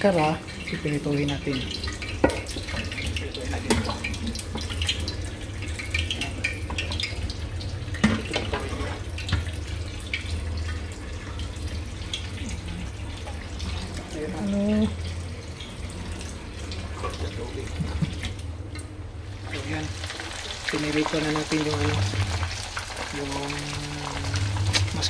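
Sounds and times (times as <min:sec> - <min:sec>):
hot oil crackling in a pan: 0:00.0 - 0:18.0, 0:19.2 - 0:25.0.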